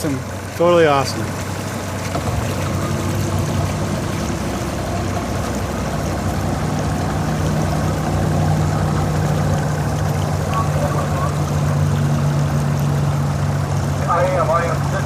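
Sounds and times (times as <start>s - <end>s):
boat engine idling: 0.0s - 15.0s
moving water: 0.0s - 15.0s.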